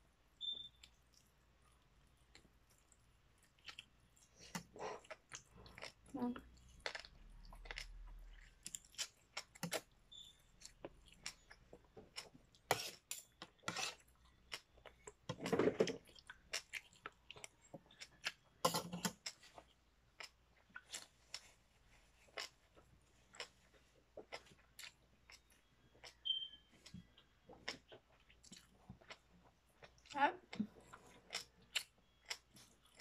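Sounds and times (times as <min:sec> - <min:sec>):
person chewing with wet smacks: 0:00.3 - 0:33.0.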